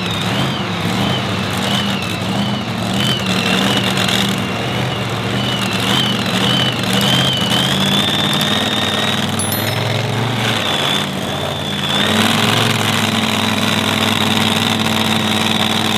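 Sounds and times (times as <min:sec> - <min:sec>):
pulling vehicle engines running: 0:00.0 - 0:15.9.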